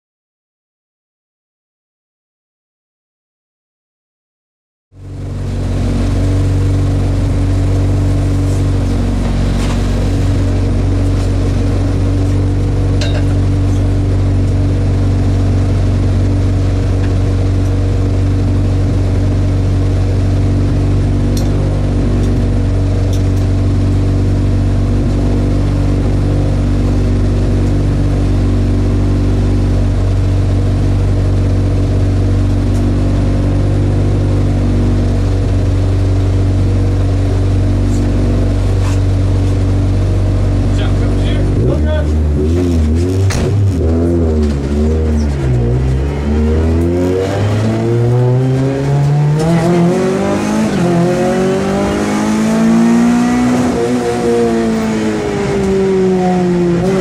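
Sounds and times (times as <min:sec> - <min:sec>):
car engine running steadily: 0:04.9 - 0:57.0.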